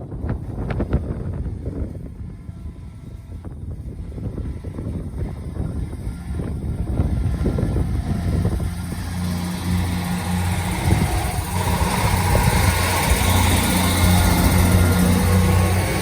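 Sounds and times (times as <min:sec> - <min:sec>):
train engine drone: 0:00.0 - 0:16.0
train wheel and rail noise: 0:00.0 - 0:16.0.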